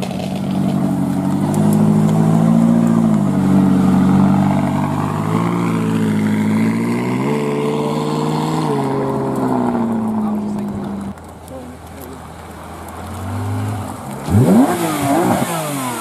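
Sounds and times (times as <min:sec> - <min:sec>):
sports car engine pulling away: 0:00.0 - 0:11.3, 0:12.2 - 0:16.0.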